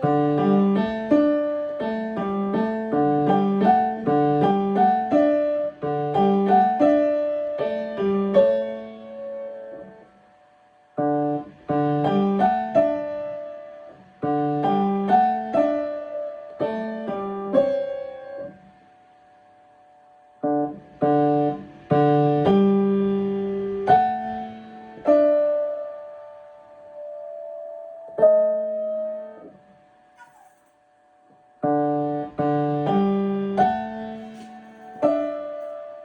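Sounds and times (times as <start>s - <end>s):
piano chords and melody: 0.0s - 30.0s, 31.4s - 36.0s.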